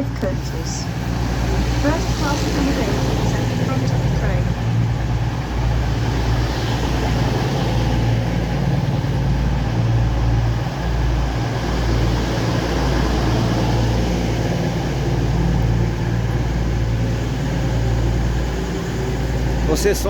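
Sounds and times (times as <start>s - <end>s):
diesel train engines idling: 0.0s - 20.0s.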